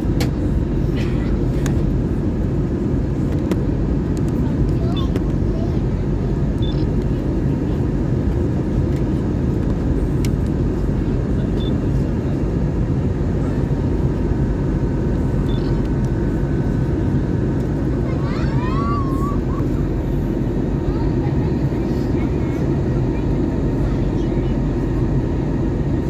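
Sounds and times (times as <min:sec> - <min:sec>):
airplane cabin engine noise: 0:00.0 - 0:26.0.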